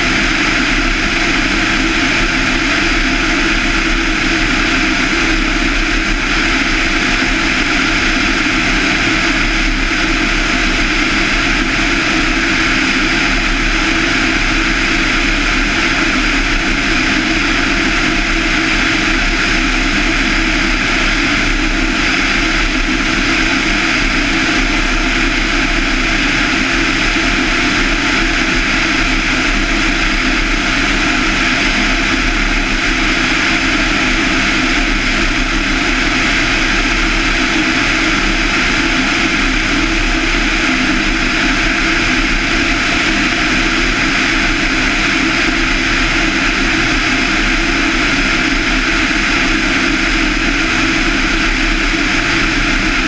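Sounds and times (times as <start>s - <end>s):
aircraft engine and propeller drone: 0.0s - 53.0s.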